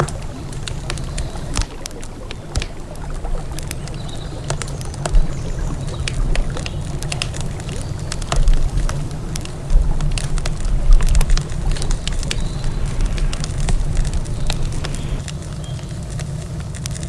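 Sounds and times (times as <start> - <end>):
steady low rumble: 0.0 - 16.7
campfire crackling: 0.0 - 17.0.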